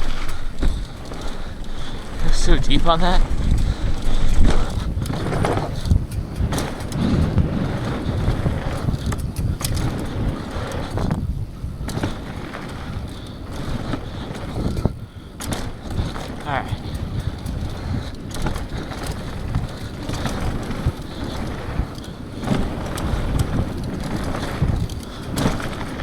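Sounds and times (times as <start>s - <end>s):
bike clattering knocks: 0.0s - 26.0s
bike tyres rumbling on dirt: 0.0s - 26.0s.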